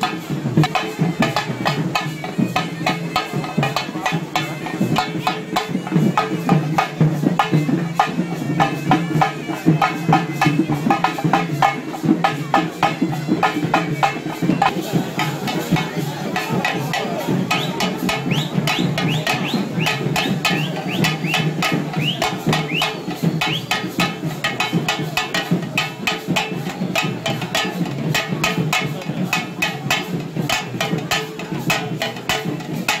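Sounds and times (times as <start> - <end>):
crowd voices: 0.0 - 33.0
fast loud drumming: 0.0 - 33.0.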